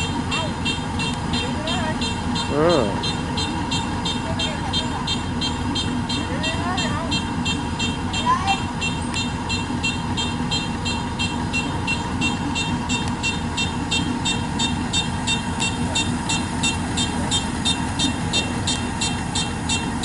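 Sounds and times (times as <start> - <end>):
combine harvester running: 0.0 - 20.0
high electronic beeps: 0.0 - 20.0.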